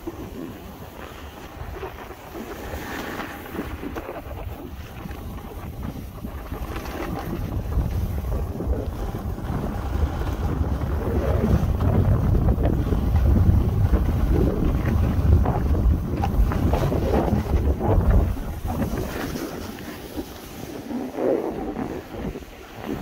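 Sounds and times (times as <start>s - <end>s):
skis scraping packed snow: 0.0s - 23.0s
wind buffeting microphone: 0.0s - 23.0s.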